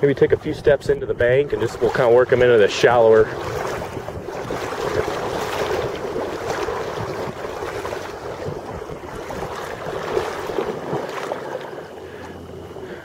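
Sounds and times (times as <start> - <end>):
wind noise on microphone: 0.0 - 11.6
river water rushing: 1.8 - 13.0.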